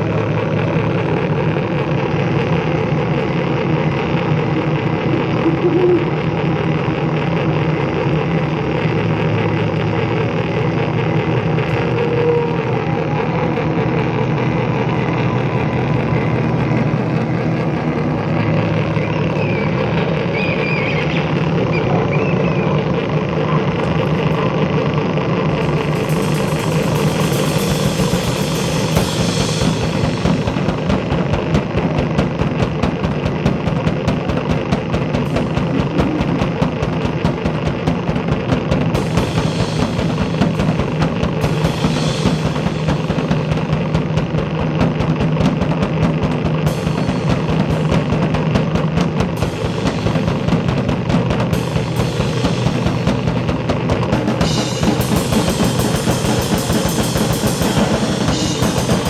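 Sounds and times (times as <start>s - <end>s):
noise music with pulsing beat: 0.0s - 59.0s.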